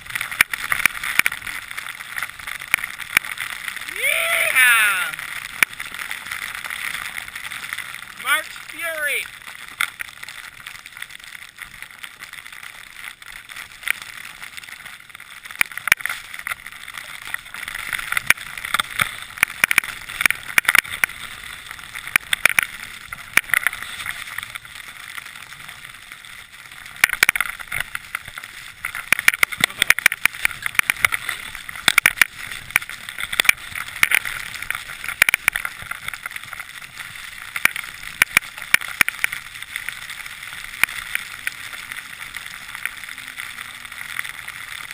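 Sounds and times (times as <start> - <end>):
skis scraping over snow: 0.0 - 44.9.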